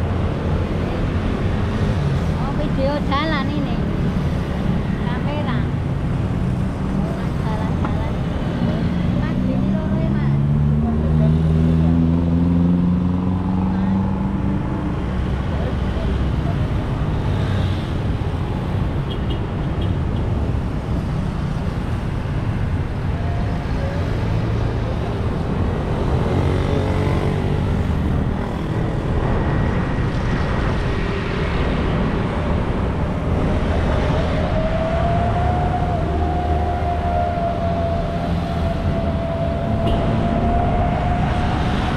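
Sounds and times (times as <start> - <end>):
cars and scooters passing: 0.0 - 41.9.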